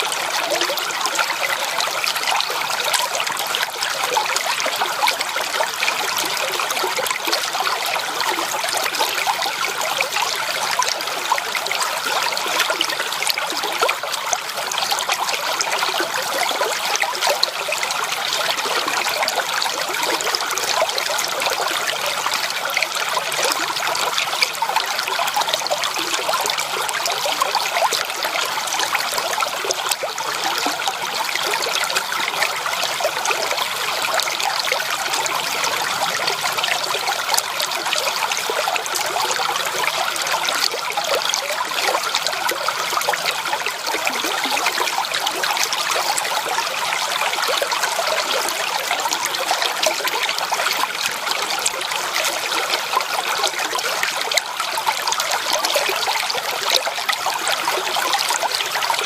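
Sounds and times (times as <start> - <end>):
creek water babbling over stones: 0.0 - 59.0.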